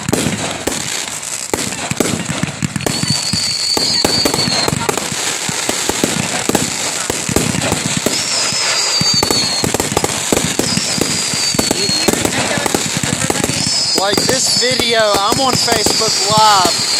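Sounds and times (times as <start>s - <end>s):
fireworks bangs and crackling: 0.0s - 16.9s
high firework whistle: 0.0s - 16.9s.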